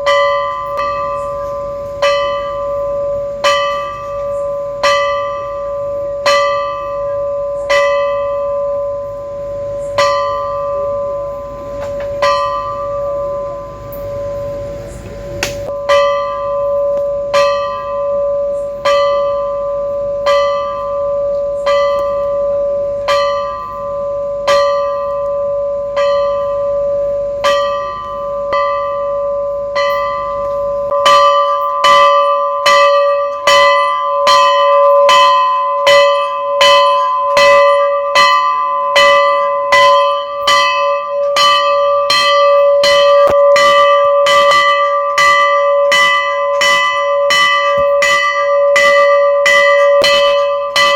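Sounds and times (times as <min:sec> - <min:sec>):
temple bell ringing: 0:00.0 - 0:50.9.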